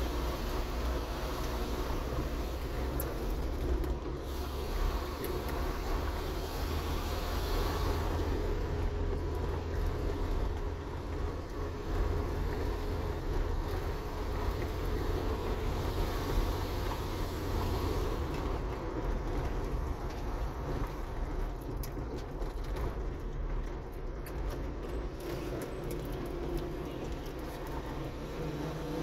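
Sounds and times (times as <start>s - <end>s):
car driving slowly: 0.0s - 29.0s.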